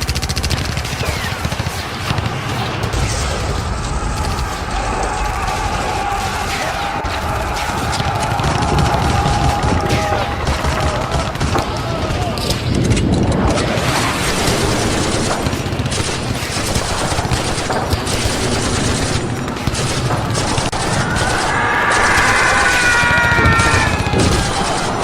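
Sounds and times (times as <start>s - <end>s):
rifle and machine-gun fire: 0.0s - 25.0s
people shouting: 2.1s - 15.9s, 16.5s - 25.0s.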